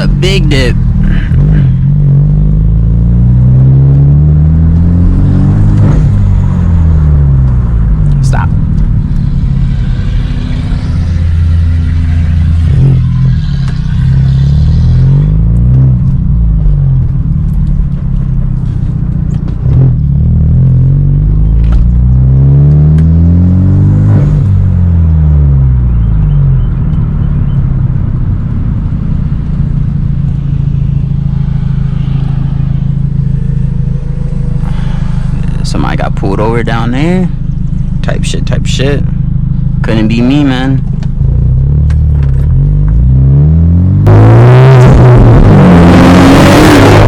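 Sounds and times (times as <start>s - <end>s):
car exhaust accelerating: 0.0s - 47.0s.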